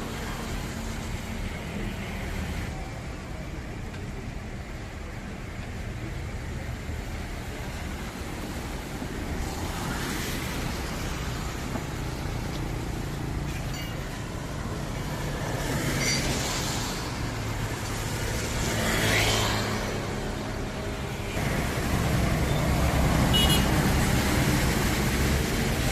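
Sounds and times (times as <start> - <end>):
passing vehicles: 0.0 - 25.9.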